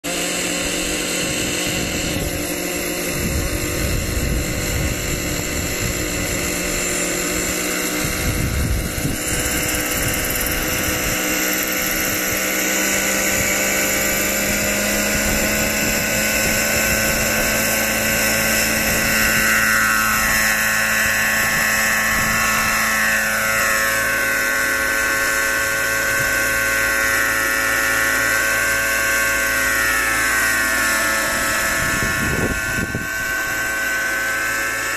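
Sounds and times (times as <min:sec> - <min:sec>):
model helicopter engine whine: 0:00.0 - 0:34.9.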